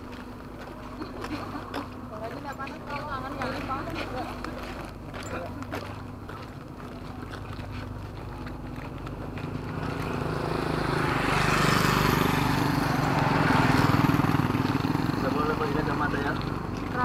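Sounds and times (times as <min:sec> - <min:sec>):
motor engine running: 0:00.0 - 0:17.0.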